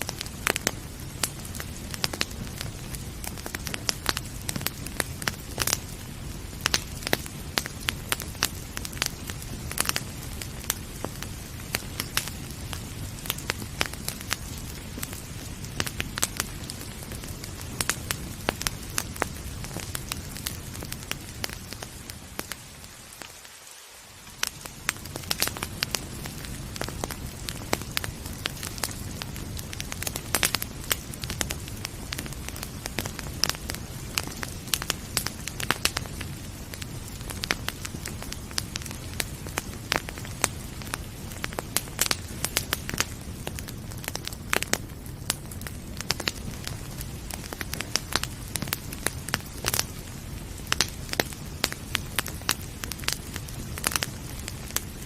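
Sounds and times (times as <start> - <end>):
rain hissing: 0.0 - 55.0
wood fire crackling and popping: 0.0 - 55.0.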